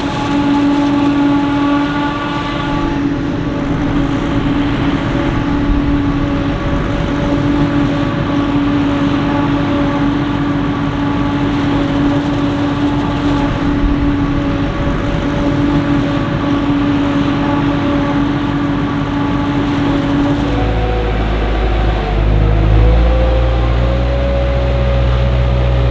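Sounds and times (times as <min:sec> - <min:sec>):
harvesting machinery rumble: 0:00.0 - 0:25.9
machinery whine: 0:00.0 - 0:25.9.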